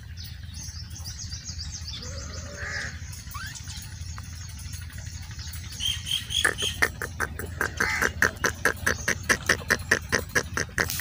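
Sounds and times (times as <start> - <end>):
high bird chirps: 0.0 - 10.2
bird calling in rapid notes: 0.4 - 11.0.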